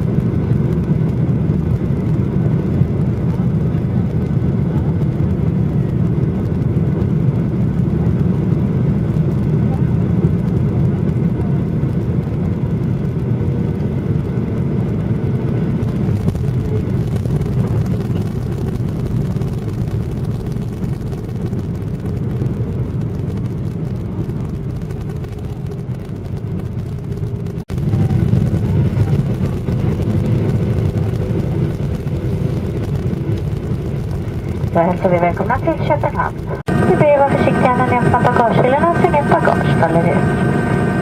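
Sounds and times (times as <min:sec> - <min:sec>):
airliner jet engines rumbling: 0:00.0 - 0:41.0.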